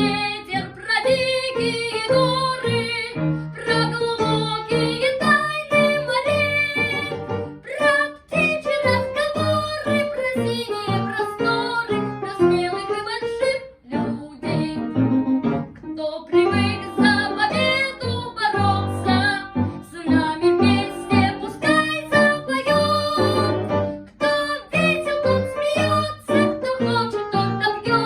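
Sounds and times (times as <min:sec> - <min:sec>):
child singing: 0:00.0 - 0:15.0, 0:16.0 - 0:28.0
instrumental accompaniment: 0:00.0 - 0:28.0.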